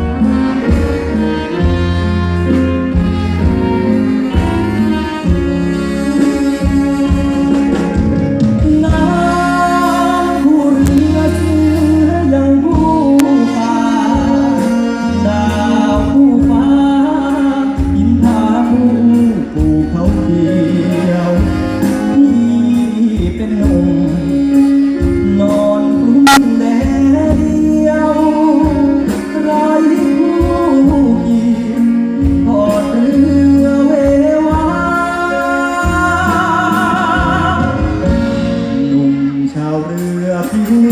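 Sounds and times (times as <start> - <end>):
steady bass line: 0.0 - 39.7
live band playing: 0.0 - 40.9
person singing: 0.0 - 40.9.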